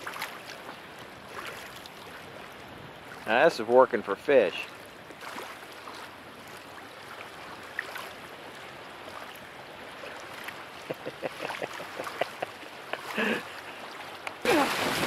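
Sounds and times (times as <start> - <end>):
creek water rushing: 0.0 - 15.0
splashes of wading: 0.0 - 15.0.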